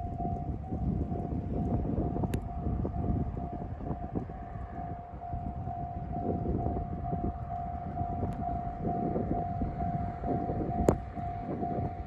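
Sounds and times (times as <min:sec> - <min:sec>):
diesel train rumble: 0:00.0 - 0:12.0
level crossing warning bell: 0:00.0 - 0:12.0.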